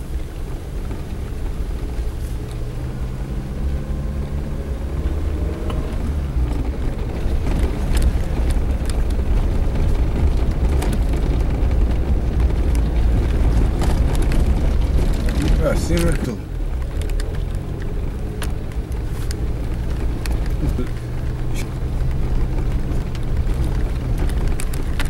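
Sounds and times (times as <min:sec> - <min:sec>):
body and suspension rattles: 0:00.0 - 0:25.0
vehicle engine rumbling: 0:00.0 - 0:25.0.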